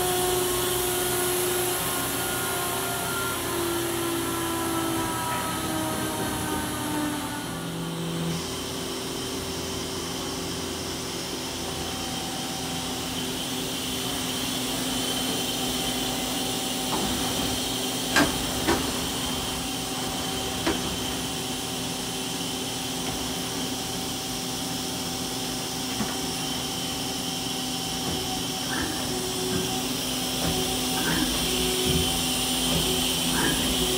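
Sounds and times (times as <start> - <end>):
machine hum and hiss: 0.0 - 33.9.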